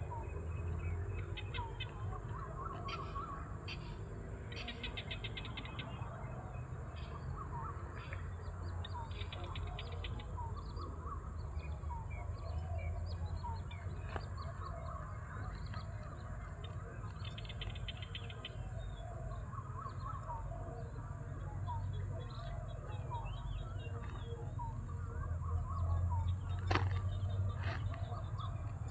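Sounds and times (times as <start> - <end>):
birds chirping and trilling: 0.0 - 28.9.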